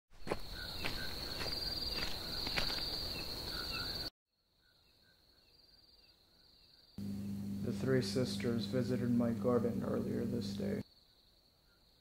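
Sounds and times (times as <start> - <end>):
crickets chirping: 0.2 - 12.0.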